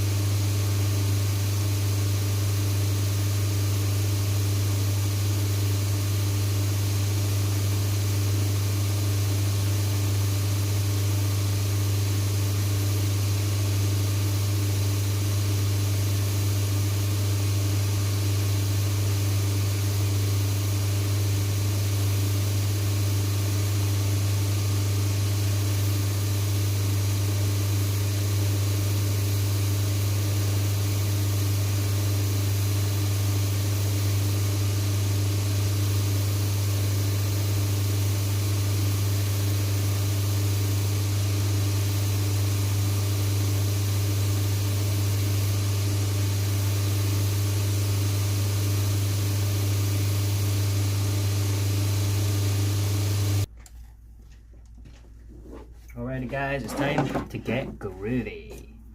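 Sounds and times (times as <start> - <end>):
electric motor humming: 0.0 - 53.5.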